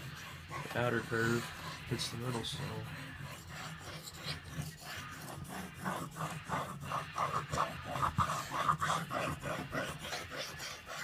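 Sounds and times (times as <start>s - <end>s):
knife scraping on whetstone: 0.0s - 11.0s.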